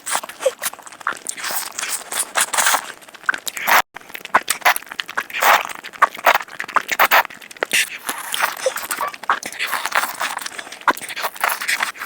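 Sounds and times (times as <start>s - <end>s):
crunching and chewing crisp food: 0.0s - 12.0s.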